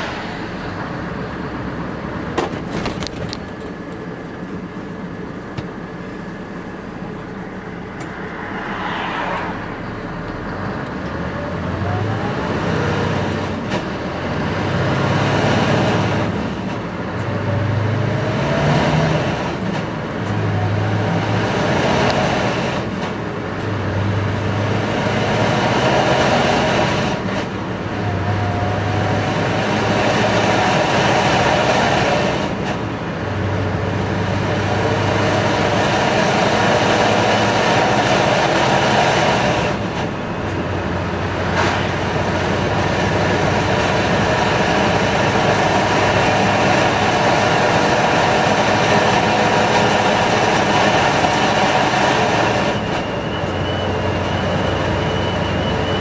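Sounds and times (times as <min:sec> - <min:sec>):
engine drone: 0:00.0 - 0:56.0
road noise: 0:00.0 - 0:56.0.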